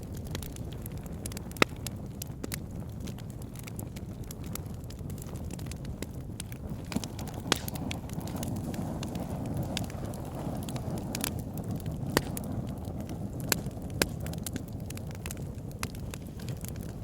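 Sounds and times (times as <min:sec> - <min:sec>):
burning wood crackling and popping: 0:00.0 - 0:17.0
campfire low rumble: 0:00.0 - 0:17.0.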